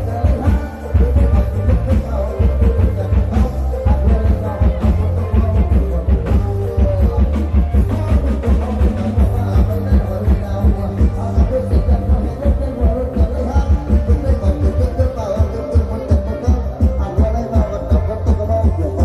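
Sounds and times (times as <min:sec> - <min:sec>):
heavy bass: 0:00.0 - 0:19.0
pounding drum kit: 0:00.0 - 0:19.0
rock band playing loudly: 0:00.0 - 0:19.0.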